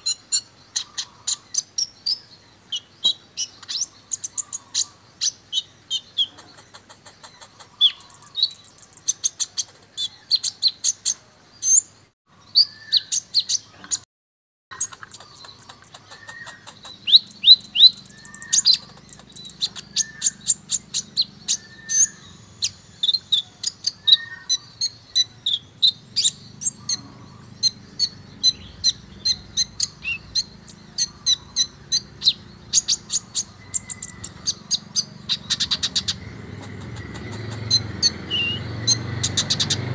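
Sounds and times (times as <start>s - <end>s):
bird chirping and trilling: 0.0s - 14.0s, 14.7s - 39.9s.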